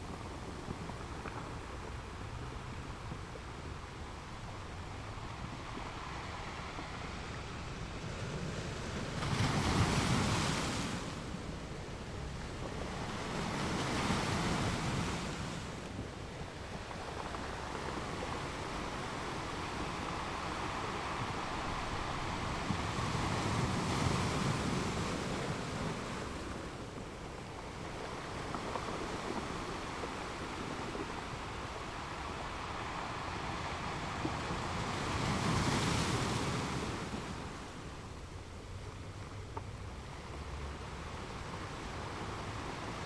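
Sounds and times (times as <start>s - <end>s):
ocean waves washing onto shore: 0.0s - 43.0s.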